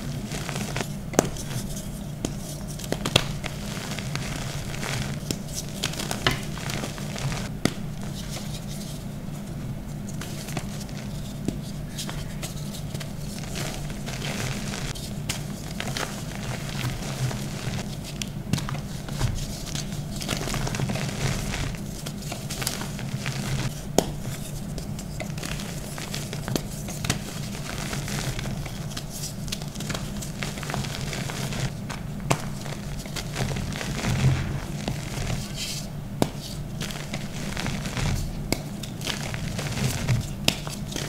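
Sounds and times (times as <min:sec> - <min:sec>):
fingers rustling powder: 0:00.0 - 0:41.0.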